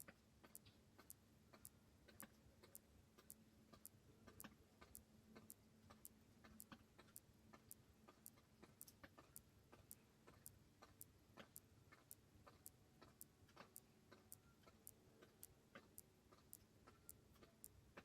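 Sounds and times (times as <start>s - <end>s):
faint clicks: 0.0s - 18.0s
faint regular ticking: 0.0s - 18.0s.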